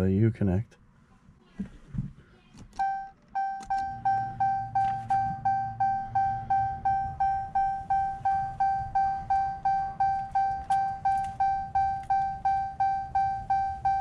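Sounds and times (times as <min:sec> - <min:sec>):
low steady hum: 0:00.0 - 0:14.0
dashboard warning chime: 0:02.8 - 0:14.0.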